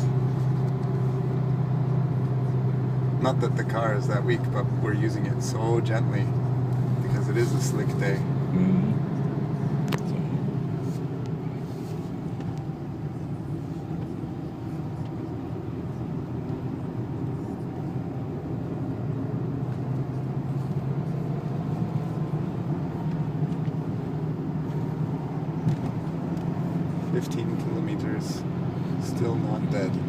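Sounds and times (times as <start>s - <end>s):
engine hum in car cabin: 0.0s - 30.0s
tyre and road noise: 0.0s - 30.0s.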